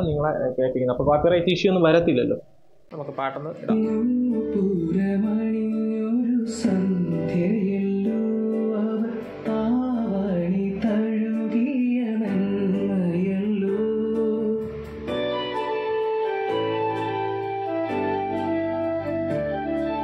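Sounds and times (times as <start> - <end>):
song with voice and guitar: 3.7 - 20.0.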